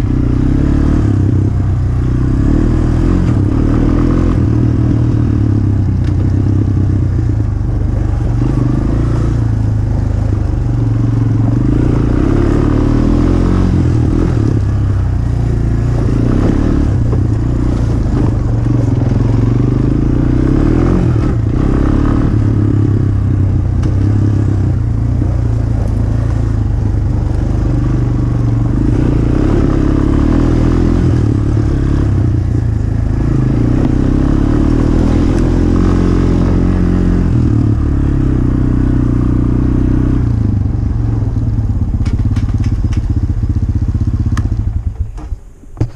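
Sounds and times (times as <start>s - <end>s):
dirt bike engine revving: 0.0s - 5.8s, 8.0s - 40.3s.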